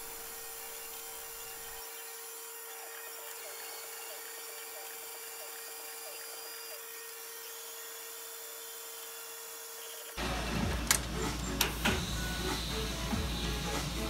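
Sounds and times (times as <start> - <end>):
milling machine hum: 0.0 - 14.0.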